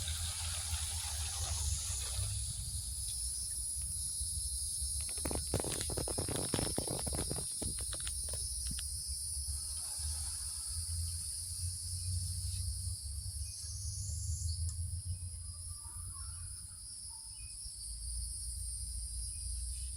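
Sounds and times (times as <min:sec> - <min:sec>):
high-pitched insect chorus: 0:00.0 - 0:19.9.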